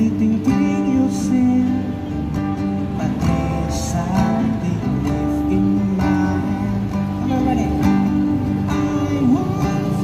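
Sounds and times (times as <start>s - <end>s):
guitar strumming chords: 0.0s - 10.0s.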